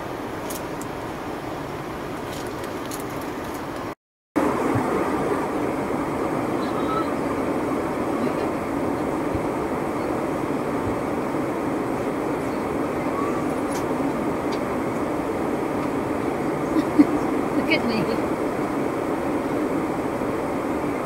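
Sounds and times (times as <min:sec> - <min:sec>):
airliner cabin engine rush: 0:00.0 - 0:21.0.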